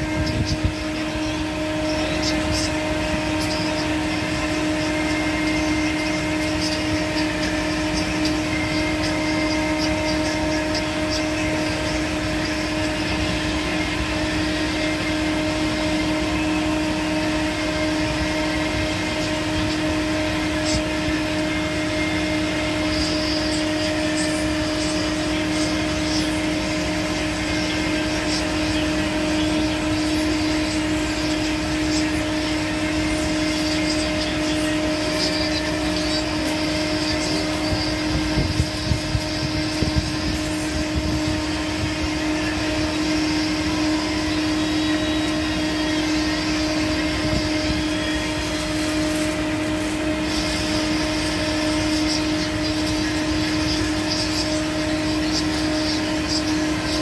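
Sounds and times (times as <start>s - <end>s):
machine hum: 0.0s - 57.0s.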